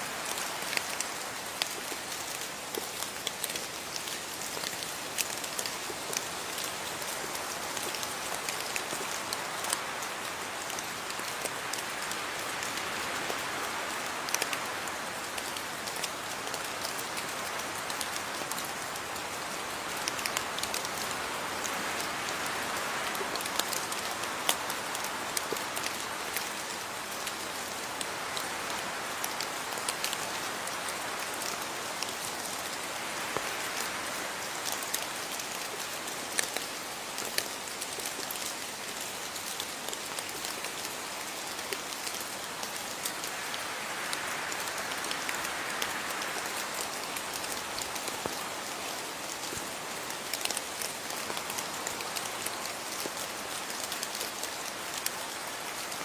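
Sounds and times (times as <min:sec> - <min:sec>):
rain drops ticking on surface: 0:00.0 - 0:56.0
rain falling: 0:00.0 - 0:56.0.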